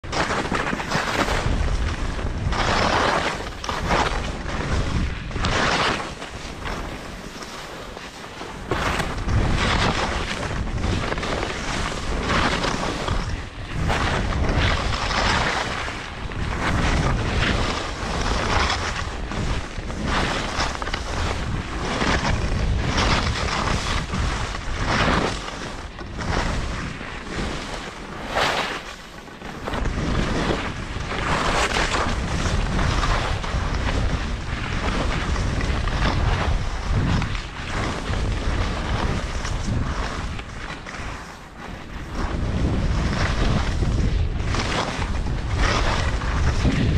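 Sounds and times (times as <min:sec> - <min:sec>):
wind buffeting microphone: 0:00.0 - 0:07.3, 0:08.5 - 0:27.8, 0:29.5 - 0:40.9, 0:41.7 - 0:46.9
skis scraping over snow: 0:00.0 - 0:46.9.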